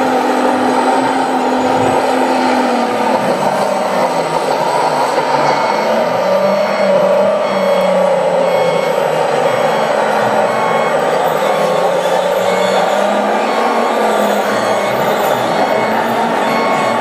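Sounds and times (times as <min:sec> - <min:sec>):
toy bulldozer engine and whine: 0:00.0 - 0:17.0.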